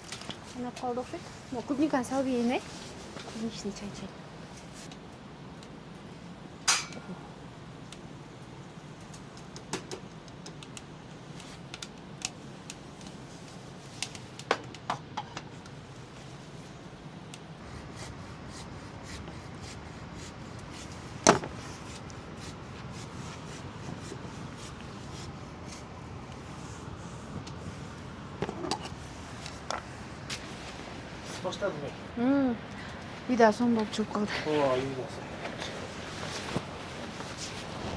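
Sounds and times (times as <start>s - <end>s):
steady low hiss: 0.0s - 37.9s.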